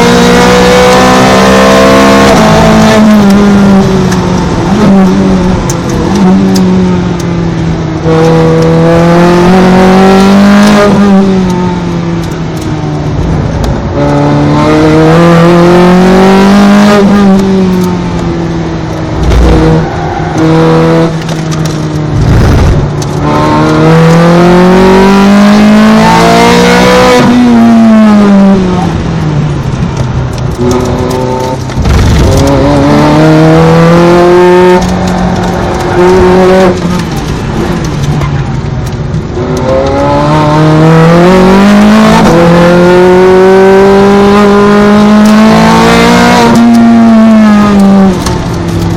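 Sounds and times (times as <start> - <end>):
racing car engine revving: 0.0 - 29.2, 30.2 - 48.9.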